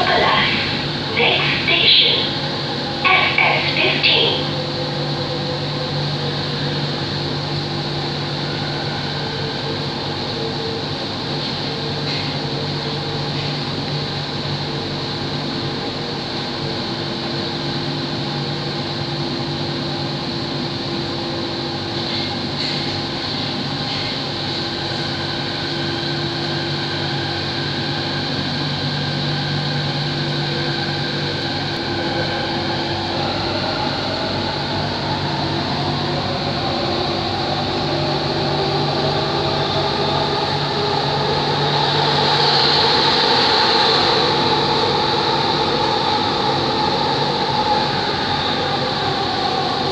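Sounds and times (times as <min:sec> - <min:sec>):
metro train interior hum: 0:00.0 - 0:49.9.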